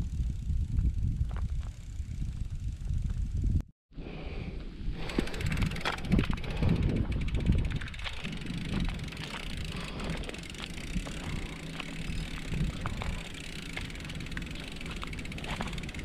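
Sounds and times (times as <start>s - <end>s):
bike clicks and rattles: 0.0s - 3.6s, 4.6s - 16.0s
bicycle rumbling on dirt road: 0.0s - 16.0s.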